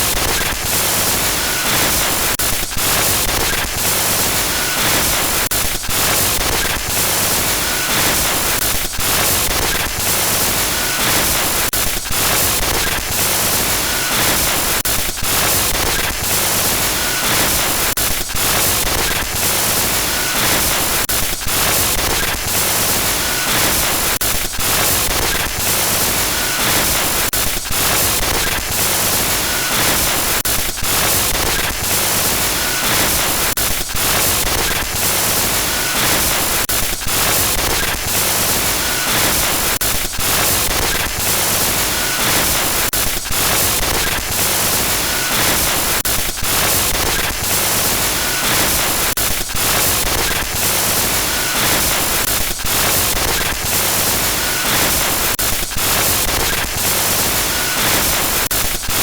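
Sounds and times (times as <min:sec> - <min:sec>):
digital static hiss: 0:00.0 - 0:59.0.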